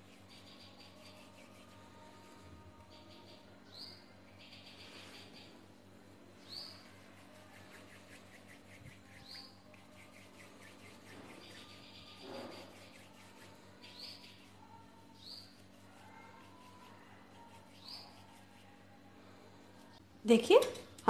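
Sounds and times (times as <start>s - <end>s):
room hum: 0.0s - 21.0s.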